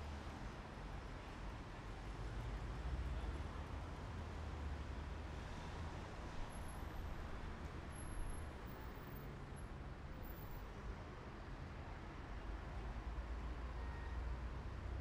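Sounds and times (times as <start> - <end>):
car road noise at highway speed: 0.0 - 13.4.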